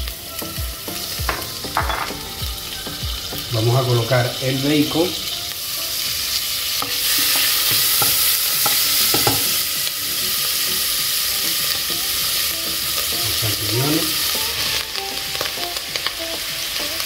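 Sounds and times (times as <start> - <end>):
bacon sizzling in oil: 0.0 - 17.0.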